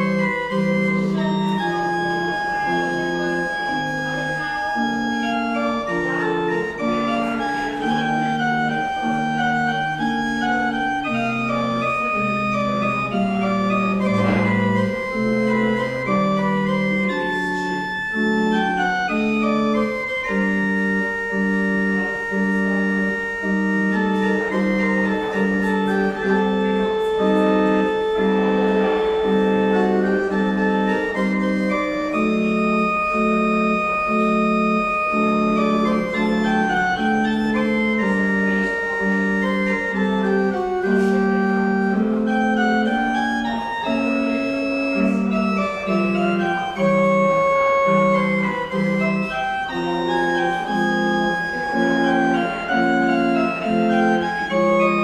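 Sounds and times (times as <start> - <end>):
church pipe organ playing: 0.0 - 55.0.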